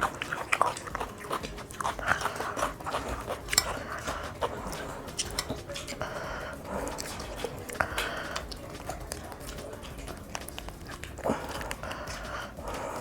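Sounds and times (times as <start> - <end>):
chewing and mouth smacking: 0.0 - 13.0.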